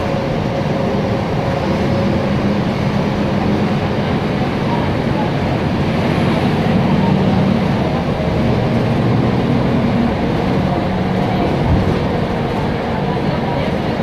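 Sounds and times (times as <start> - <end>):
bus diesel engine humming: 0.0 - 14.0.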